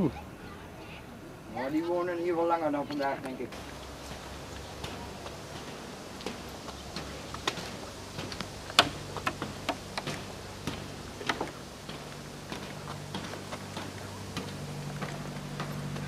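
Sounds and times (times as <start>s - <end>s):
footsteps on wooden planks: 2.9s - 16.0s.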